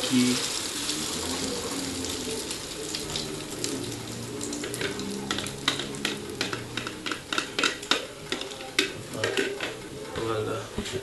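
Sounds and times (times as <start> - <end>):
omelette sizzling in a pan: 0.0 - 10.1.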